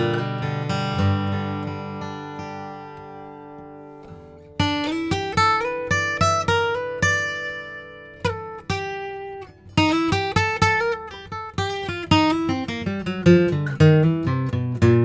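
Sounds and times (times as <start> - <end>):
acoustic guitar picked notes: 0.0 - 15.0.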